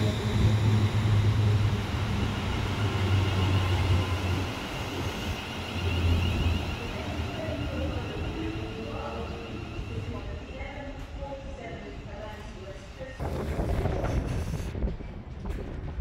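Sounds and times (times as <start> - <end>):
train high whine: 0.0 - 14.9
train traction drone: 0.0 - 16.0.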